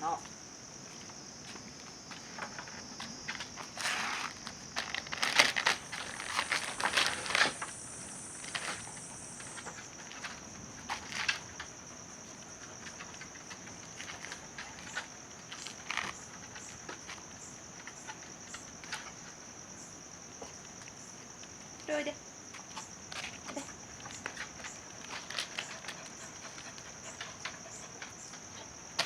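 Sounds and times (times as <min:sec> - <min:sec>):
higher insect chirr: 0:00.0 - 0:29.0
insects chirring: 0:00.0 - 0:29.0.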